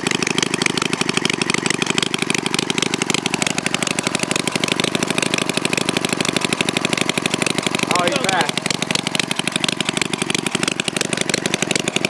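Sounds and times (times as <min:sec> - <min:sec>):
engine popping exhaust: 0:00.0 - 0:12.0.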